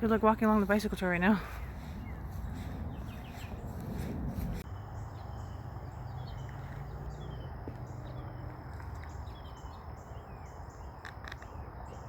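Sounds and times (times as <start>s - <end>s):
low steady rumble: 0.0s - 10.5s
birds chirping: 0.0s - 12.0s.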